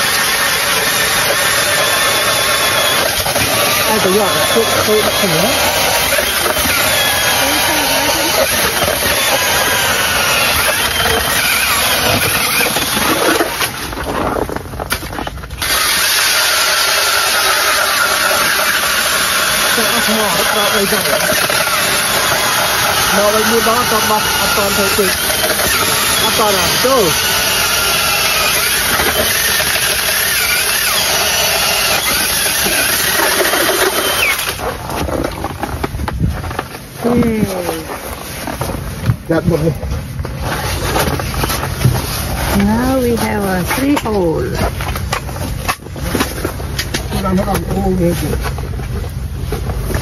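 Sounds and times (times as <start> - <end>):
ice auger drilling: 0.0 - 50.0.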